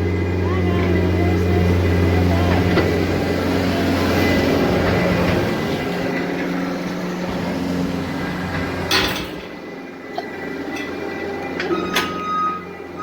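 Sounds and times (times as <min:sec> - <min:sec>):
farm machinery engine running: 0:00.0 - 0:13.0.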